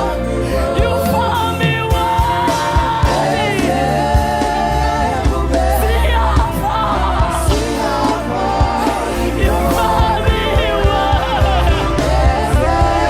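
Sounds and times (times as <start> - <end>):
band playing: 0.0 - 13.0
voices singing gospel: 0.0 - 13.0
drums beating: 0.7 - 13.0.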